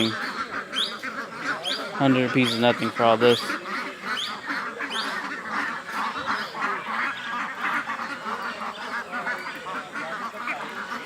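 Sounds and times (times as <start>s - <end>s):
chorus of birds calling: 0.0s - 11.0s.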